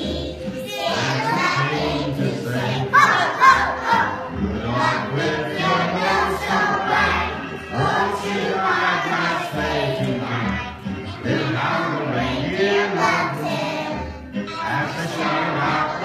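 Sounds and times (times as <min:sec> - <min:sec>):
children's choir singing: 0:00.0 - 0:16.0
musical accompaniment: 0:00.0 - 0:16.0.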